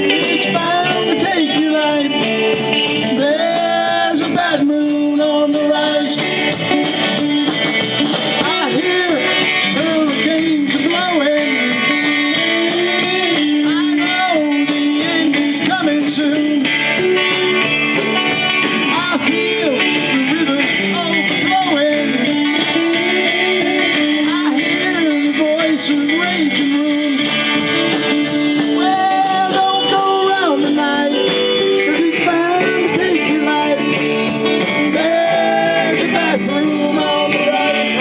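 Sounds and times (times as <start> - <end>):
person singing: 0.0 - 17.7, 18.6 - 38.0
guitar: 0.0 - 38.0.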